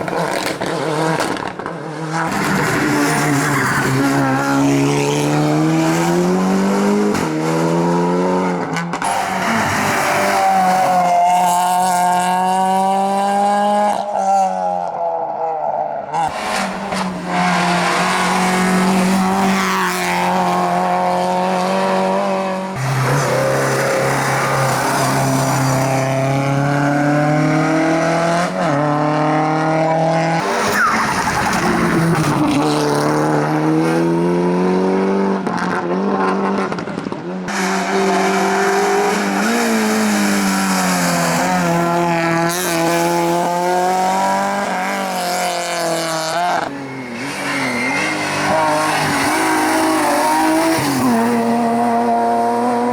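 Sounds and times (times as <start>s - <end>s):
racing car engines accelerating: 0.0s - 52.9s.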